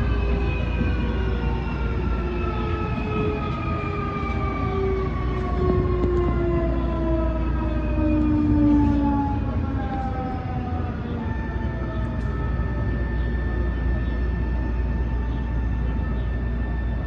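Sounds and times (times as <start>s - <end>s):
train running gear rumble: 0.0s - 17.0s.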